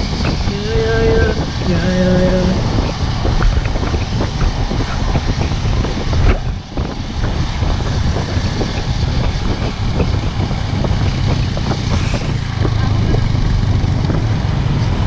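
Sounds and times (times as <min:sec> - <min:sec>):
motorcycle engine running: 0:00.0 - 0:15.0
wind on microphone: 0:00.0 - 0:15.0.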